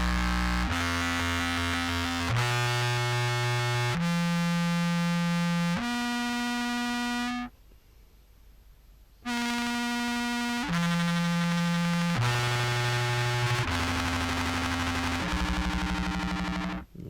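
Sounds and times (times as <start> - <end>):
distorted clarinet notes: 0.0 - 7.5, 9.3 - 17.0.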